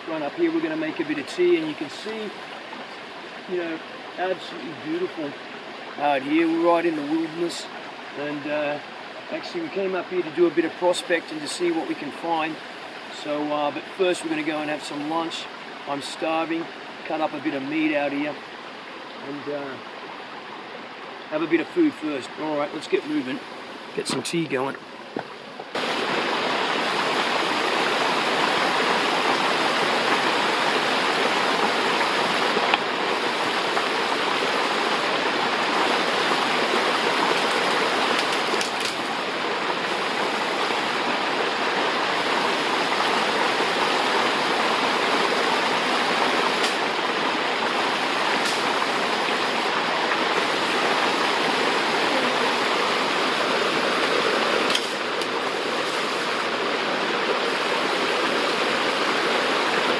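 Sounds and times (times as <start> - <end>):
creek and waterfall rushing: 0.0 - 59.9.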